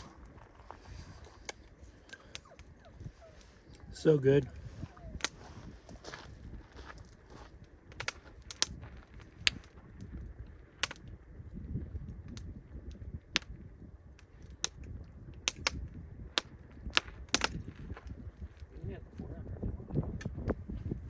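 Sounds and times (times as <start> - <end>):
burning wood popping: 0.0 - 19.3
campfire crackling: 0.0 - 20.6.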